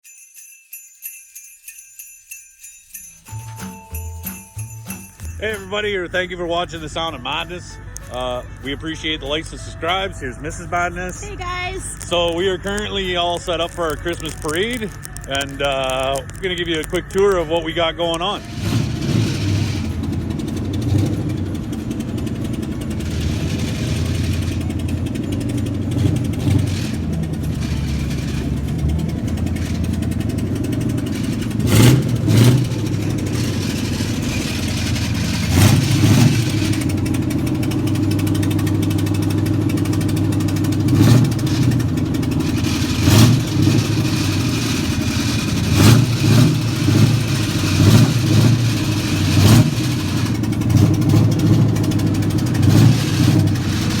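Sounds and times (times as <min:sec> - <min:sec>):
vehicle engine idling and revving: 0:03.2 - 0:54.0.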